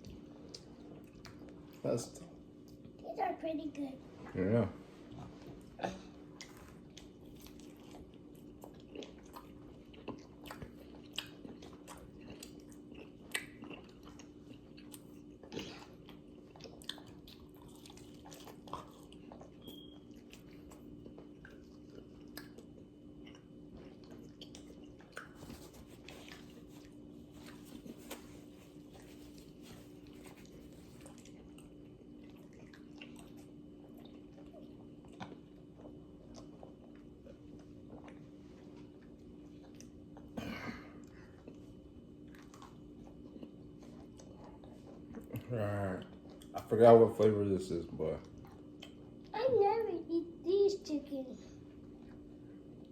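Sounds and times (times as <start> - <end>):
person chewing food: 0.0 - 1.8, 5.0 - 46.8, 48.2 - 49.3, 51.6 - 52.9.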